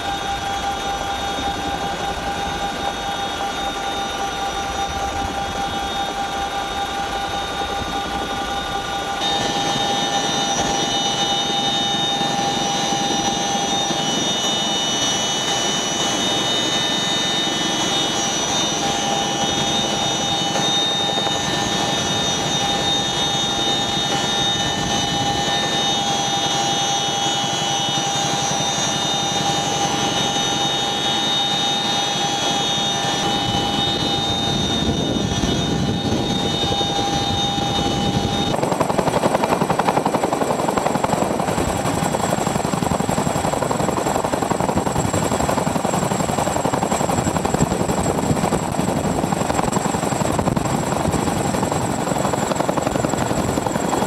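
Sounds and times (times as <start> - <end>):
helicopter rotor and engine noise: 0.0 - 54.0
high turbine whine: 0.0 - 54.0.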